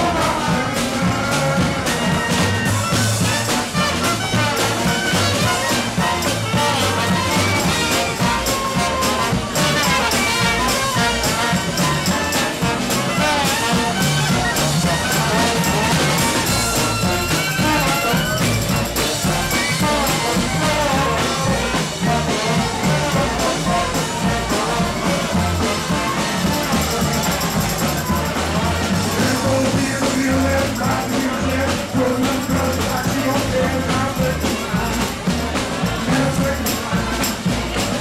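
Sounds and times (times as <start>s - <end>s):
drum kit beat: 0.0s - 38.0s
trumpet and horns playing: 0.0s - 38.0s.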